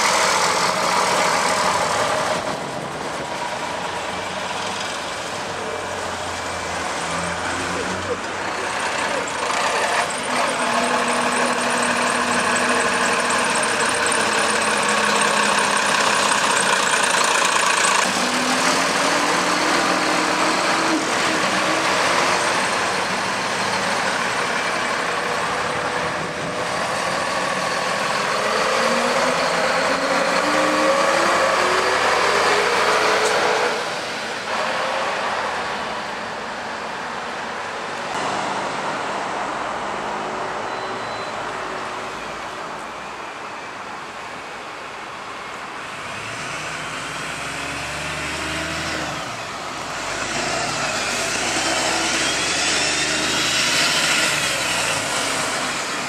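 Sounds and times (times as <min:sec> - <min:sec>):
buses pulling away: 0:00.0 - 0:56.0.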